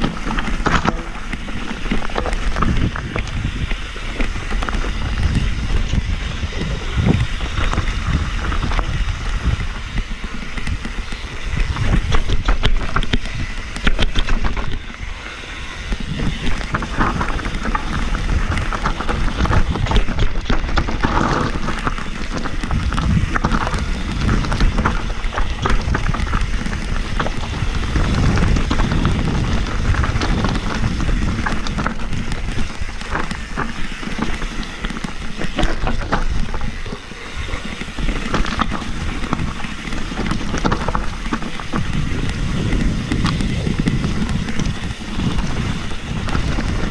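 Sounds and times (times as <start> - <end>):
bike rattling and knocking: 0.0 - 46.9
tyres rumbling on dirt: 0.0 - 46.9
wind rushing over microphone: 0.0 - 46.9.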